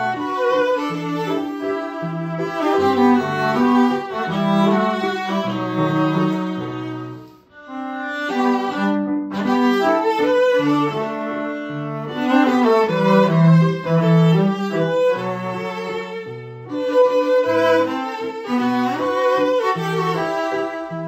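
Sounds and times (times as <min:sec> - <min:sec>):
sustained low cello notes: 0:00.0 - 0:21.0
violin and cello melody: 0:00.0 - 0:21.0.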